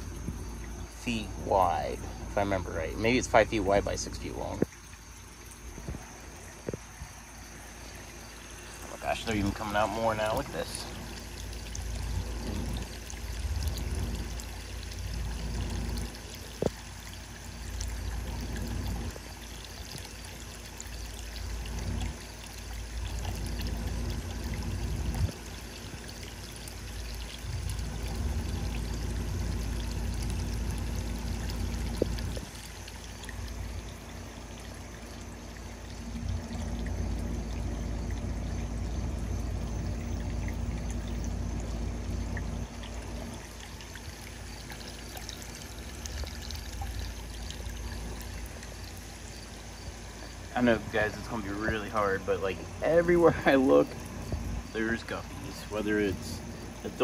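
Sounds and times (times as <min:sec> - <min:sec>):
water trickling into pond: 0:00.0 - 0:57.0.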